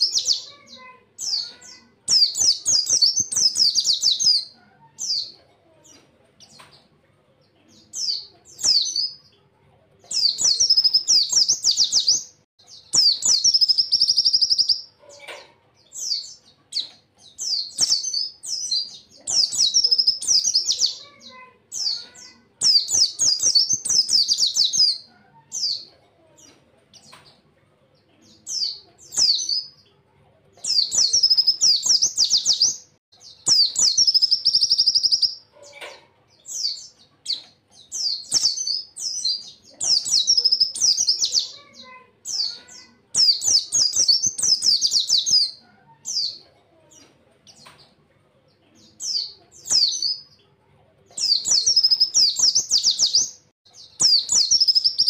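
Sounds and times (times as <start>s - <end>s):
bird chirping and trilling: 0.0s - 30.0s, 30.6s - 48.0s, 48.7s - 55.0s.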